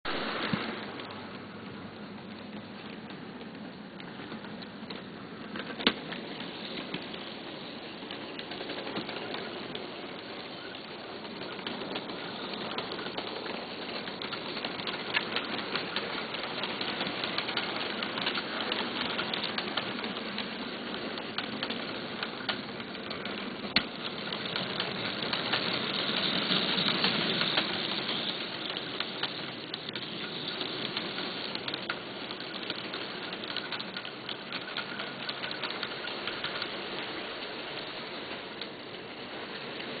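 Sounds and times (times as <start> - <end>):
model train wheels clicking on rails: 0.1 - 40.0.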